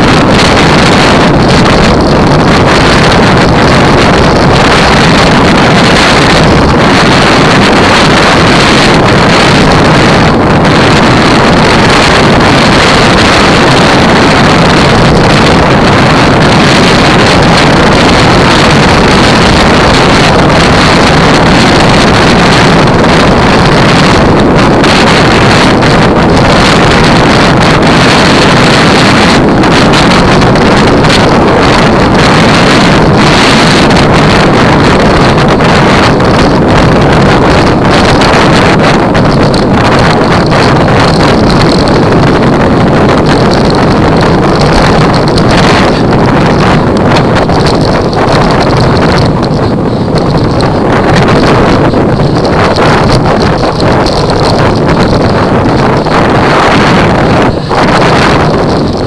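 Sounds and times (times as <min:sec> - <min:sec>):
wind buffeting the microphone: 0:00.0 - 0:59.0.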